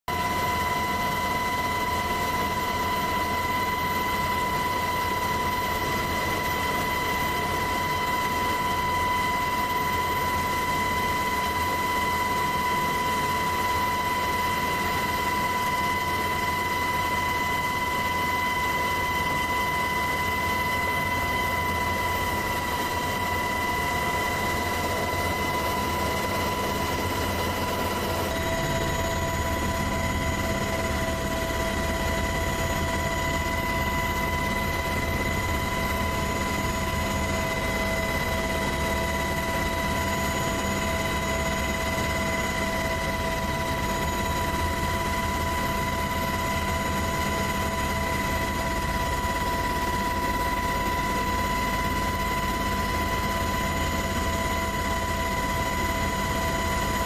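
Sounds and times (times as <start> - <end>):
helicopter drone: 0.1 - 57.0
high whine: 0.1 - 57.0.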